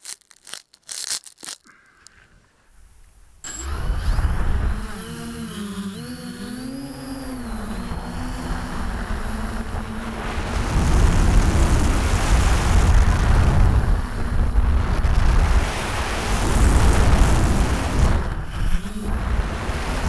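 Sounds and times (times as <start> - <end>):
drone motors whining: 3.0 - 20.0
wind buffeting microphone: 3.5 - 20.0.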